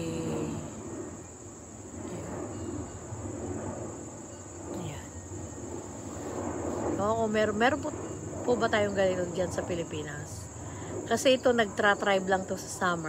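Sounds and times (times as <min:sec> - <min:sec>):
crickets chirping: 0:00.0 - 0:13.0
low steady rumble: 0:00.0 - 0:13.0.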